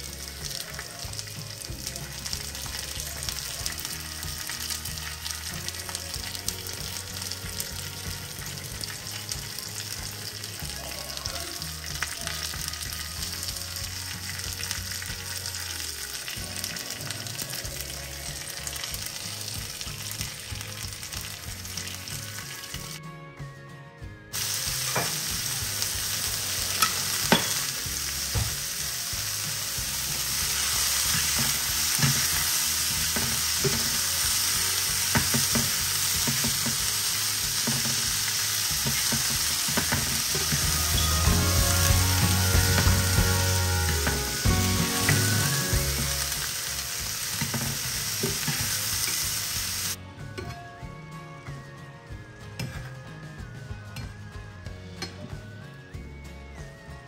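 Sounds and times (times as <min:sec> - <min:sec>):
meat sizzling in a skillet: 0:00.0 - 0:23.0, 0:24.4 - 0:50.0.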